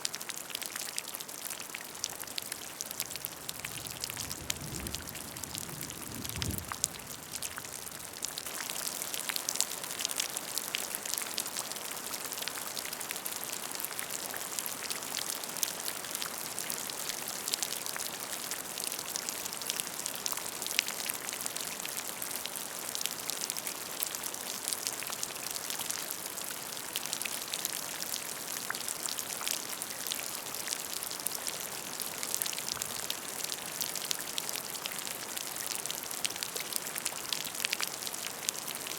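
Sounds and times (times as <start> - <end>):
rain pattering on a puddle: 0.0 - 38.9.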